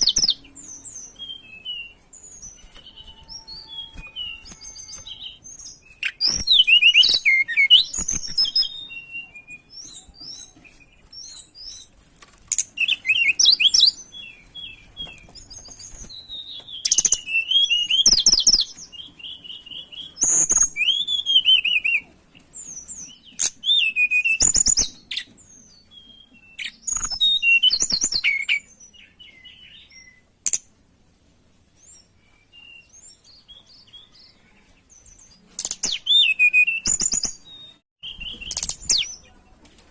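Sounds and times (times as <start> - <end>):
songbird singing: 0.0 - 30.8, 31.6 - 39.9.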